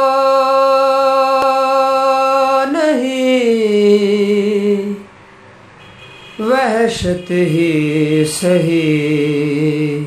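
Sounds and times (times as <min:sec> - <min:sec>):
man singing unaccompanied: 0:00.0 - 0:05.2, 0:06.4 - 0:10.0.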